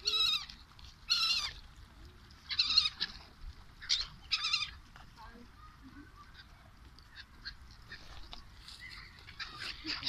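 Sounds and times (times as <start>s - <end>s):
gulls squawking: 0.0s - 1.7s, 2.4s - 4.9s, 5.6s - 10.0s.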